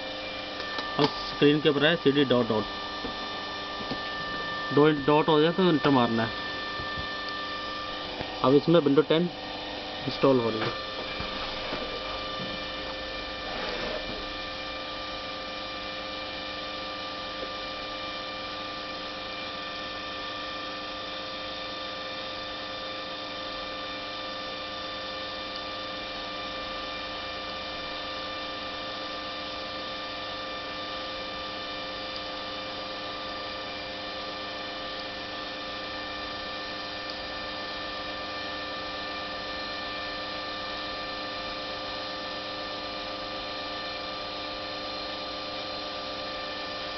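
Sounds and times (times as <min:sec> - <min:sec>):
electrical hum with high tones: 0:00.0 - 0:46.9.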